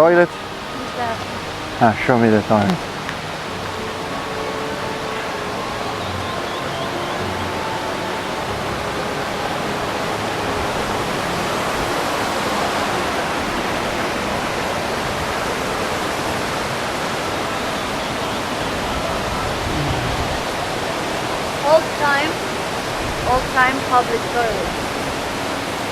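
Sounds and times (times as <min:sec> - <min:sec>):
rushing water: 0:00.0 - 0:25.9.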